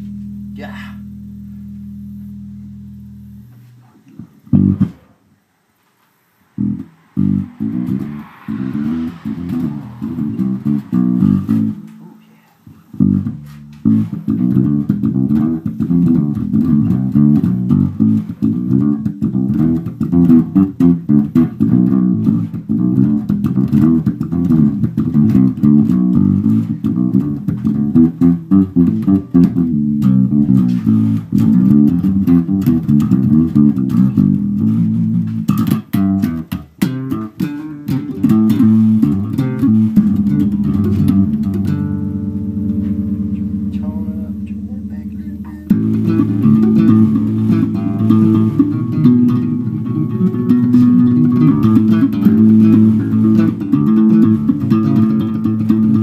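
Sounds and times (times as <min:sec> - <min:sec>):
electric bass funk line: 0:00.0 - 0:05.2, 0:06.5 - 0:12.1, 0:12.7 - 0:56.0.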